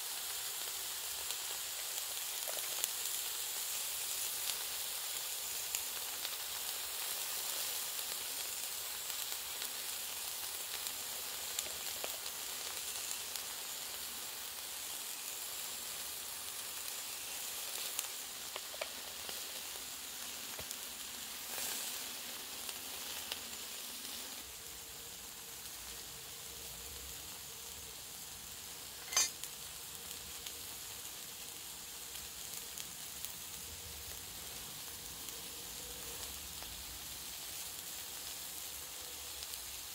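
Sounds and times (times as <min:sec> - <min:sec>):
burger sizzling in frying pan: 0:00.0 - 0:39.9.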